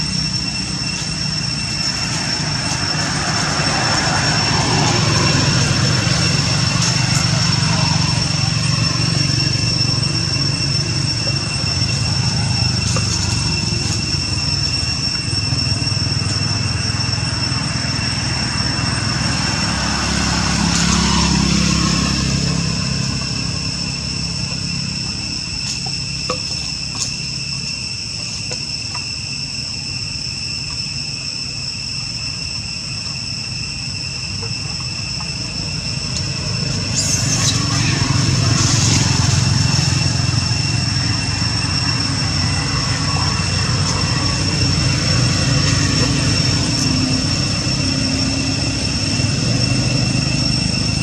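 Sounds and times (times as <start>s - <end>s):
vehicle engine rumble passing: 0.0s - 28.6s, 32.8s - 51.0s
insects droning: 0.0s - 51.0s.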